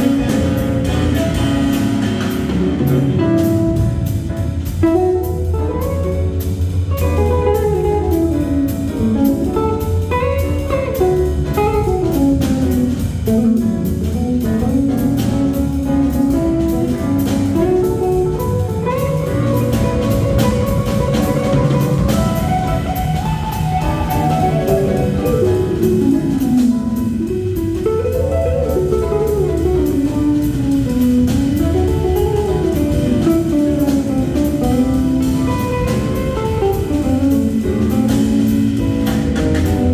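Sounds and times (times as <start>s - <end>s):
drum kit cymbals: 0.0s - 39.9s
low bass line: 0.0s - 39.9s.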